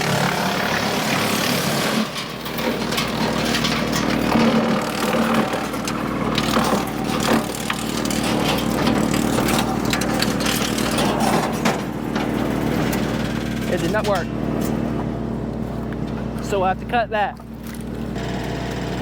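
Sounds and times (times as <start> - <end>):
wood chipper running: 0.0 - 19.0.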